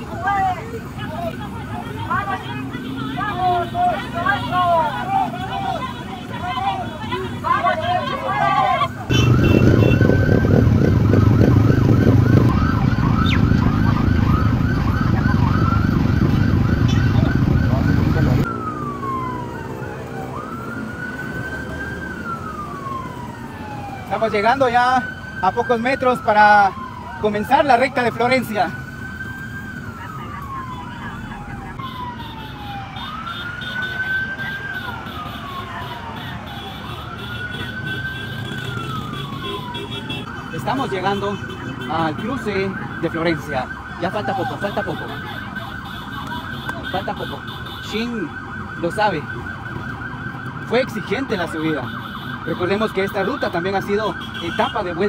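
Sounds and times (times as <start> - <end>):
siren yelping: 0.0 - 55.0
traffic rumble: 0.0 - 55.0.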